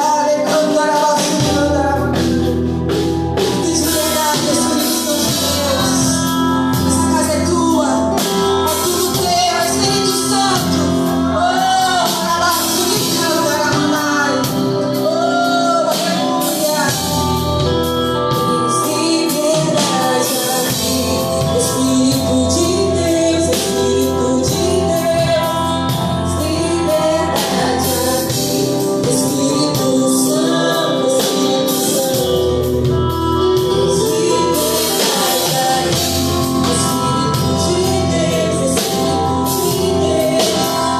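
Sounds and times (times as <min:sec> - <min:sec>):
band playing: 0:00.0 - 0:40.9
drums with cymbals: 0:00.0 - 0:40.9
people singing gospel: 0:00.0 - 0:40.9.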